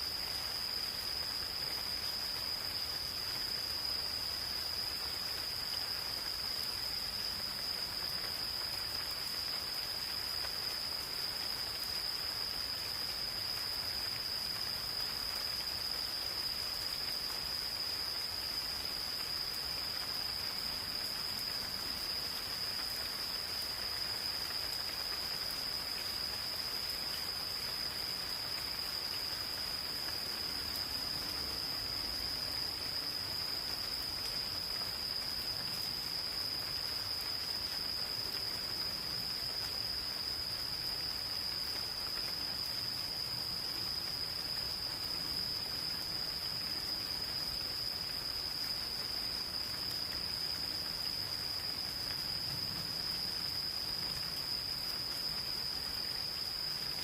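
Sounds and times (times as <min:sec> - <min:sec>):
gentle rain in forest: 0:00.0 - 0:57.0
insects trilling: 0:00.0 - 0:57.0.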